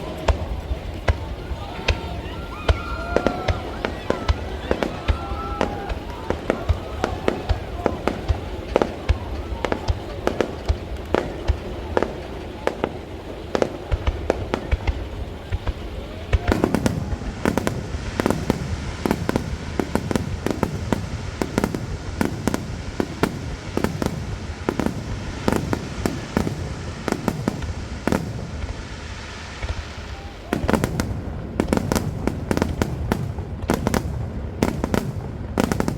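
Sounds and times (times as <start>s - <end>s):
firework shells bursting: 0.0s - 35.9s.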